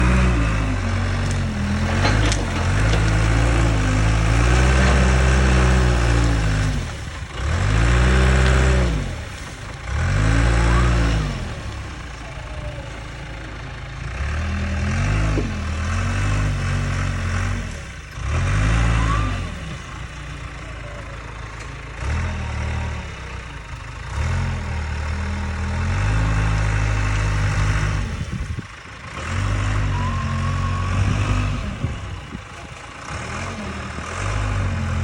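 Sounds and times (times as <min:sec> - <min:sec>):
engine revving: 0:00.0 - 0:21.0, 0:22.0 - 0:35.0.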